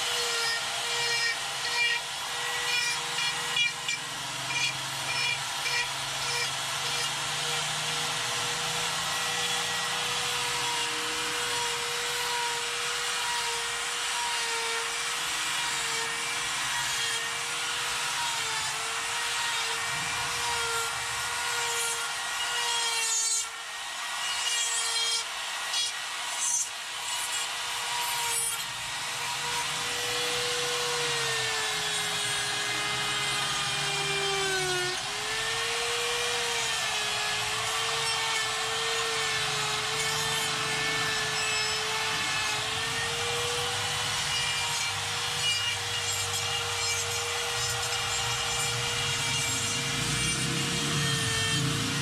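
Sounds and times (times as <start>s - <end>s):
die grinder cutting wood: 0.0s - 52.0s.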